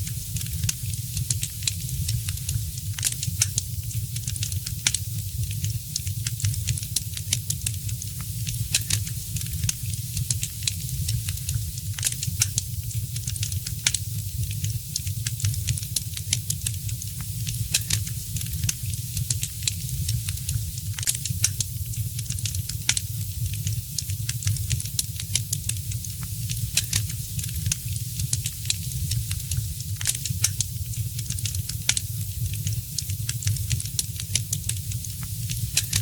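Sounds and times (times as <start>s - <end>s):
fire crackling and popping: 0.0s - 36.0s.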